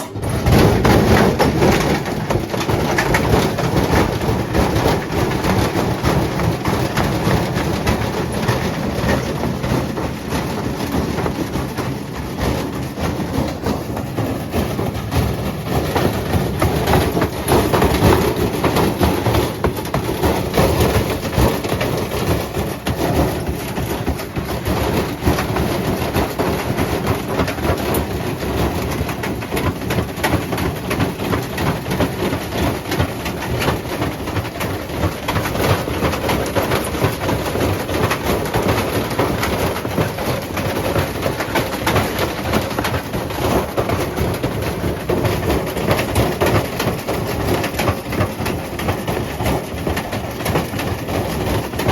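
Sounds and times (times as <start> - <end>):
brick clattering in washing machine drum: 0.0 - 51.9.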